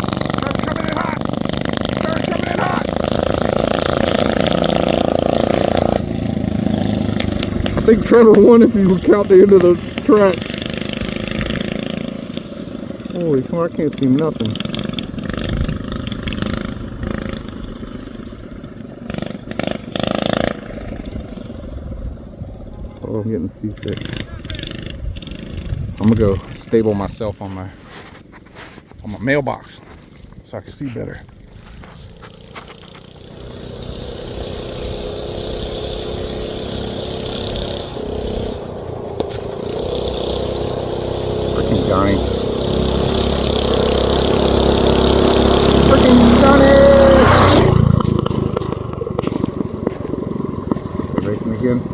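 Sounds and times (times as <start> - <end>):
mini bike engine revving: 0.0 - 27.2, 31.2 - 51.9.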